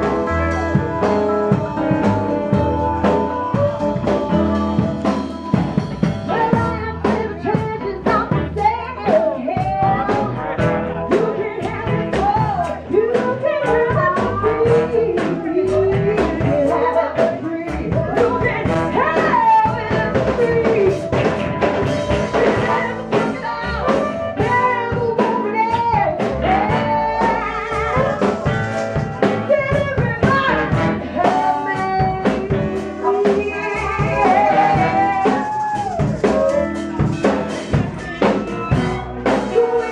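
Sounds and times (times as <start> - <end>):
person singing: 0.0 - 21.4, 22.2 - 28.5, 29.2 - 39.9
drum kit beat: 0.0 - 39.9
live blues band: 0.0 - 39.9
upright bass: 0.0 - 39.9.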